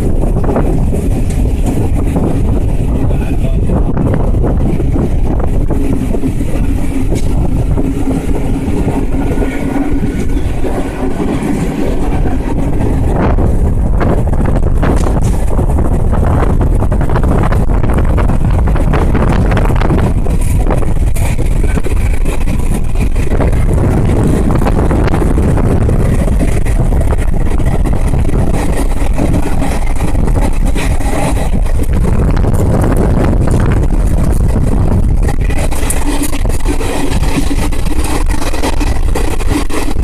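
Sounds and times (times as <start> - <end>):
train rumbling at speed: 0.0 - 40.0.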